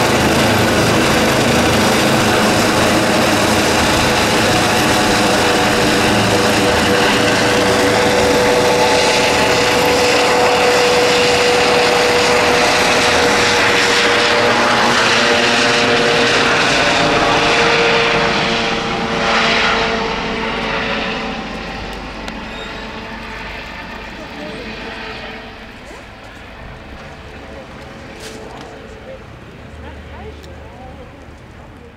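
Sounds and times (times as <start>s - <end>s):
helicopter flying overhead: 0.0s - 31.9s.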